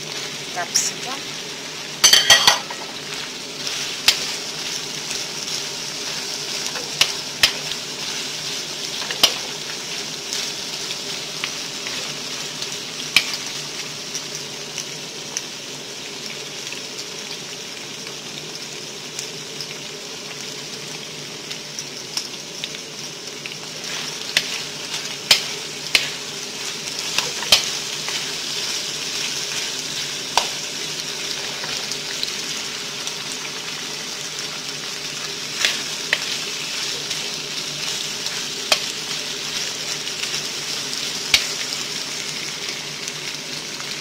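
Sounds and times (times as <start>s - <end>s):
food sizzling in frying pan: 0.0s - 44.0s.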